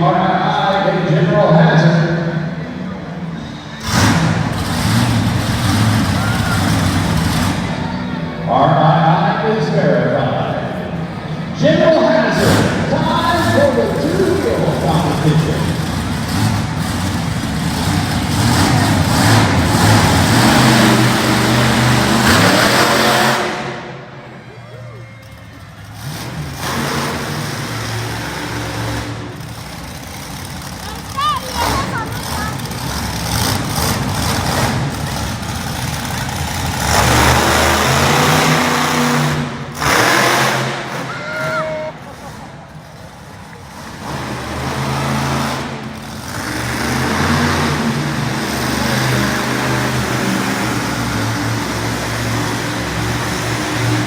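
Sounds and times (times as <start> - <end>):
truck engine running hard: 0.0 - 54.0.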